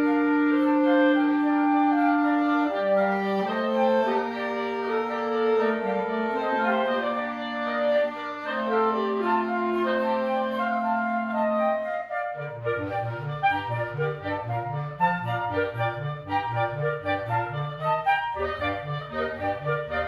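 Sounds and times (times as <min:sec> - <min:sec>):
clarinet: 0:00.0 - 0:20.0
wind quintet chamber music: 0:00.0 - 0:20.0.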